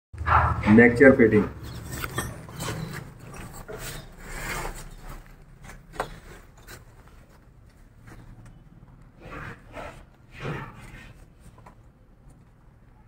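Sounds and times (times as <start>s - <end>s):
rubbing and handling noises: 1.3s - 13.0s.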